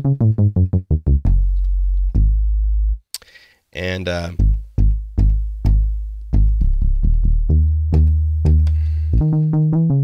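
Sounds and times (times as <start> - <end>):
deep sub bass synth notes: 0.0 - 3.0, 4.4 - 10.0.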